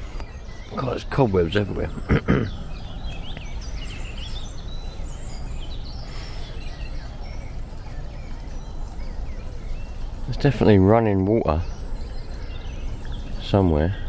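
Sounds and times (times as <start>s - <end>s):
low background rush: 0.0s - 14.0s
wild birds chirping and singing: 0.0s - 14.0s.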